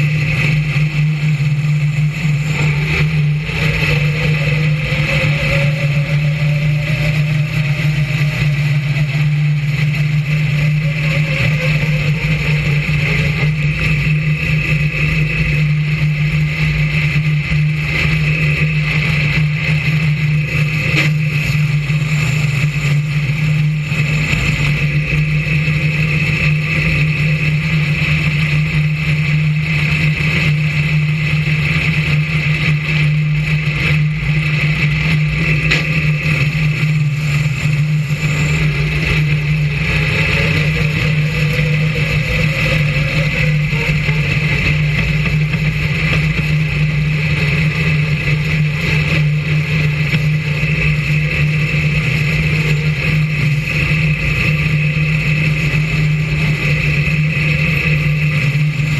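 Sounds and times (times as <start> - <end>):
race car engine droning: 0.0 - 58.9.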